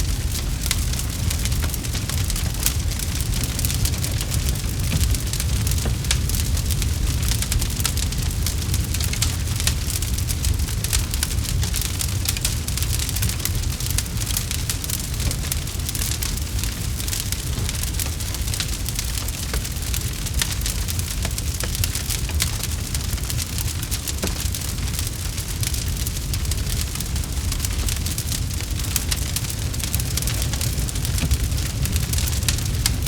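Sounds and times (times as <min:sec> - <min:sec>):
campfire crackling and popping: 0:00.0 - 0:33.0
low rumble of burning fire: 0:00.0 - 0:33.0.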